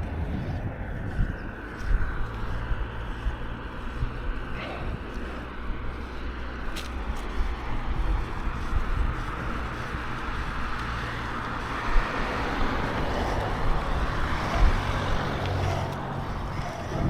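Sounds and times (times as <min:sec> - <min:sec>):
bike tyre rumble: 0:00.0 - 0:17.0
wind rushing over microphone: 0:00.0 - 0:17.0.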